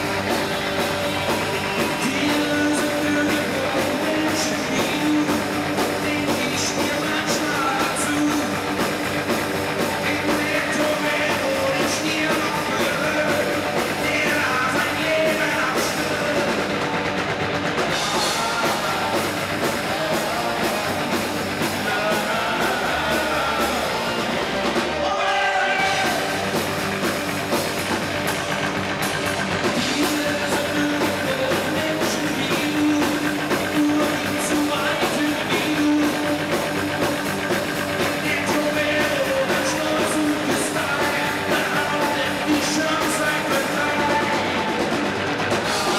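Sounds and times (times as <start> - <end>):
male lead vocals: 0.0 - 45.9
rock band playing live: 0.0 - 45.9.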